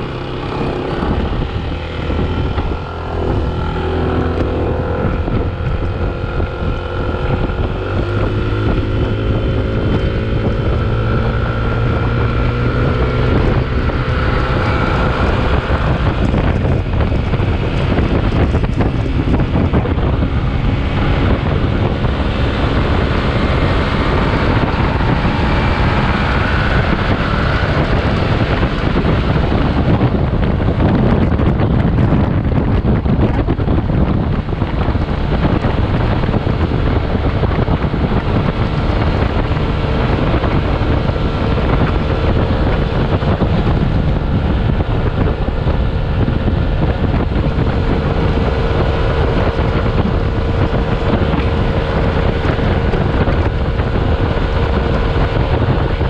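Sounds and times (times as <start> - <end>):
scooter engine pulling: 0.0 - 56.0
wind rushing over microphone: 0.0 - 56.0.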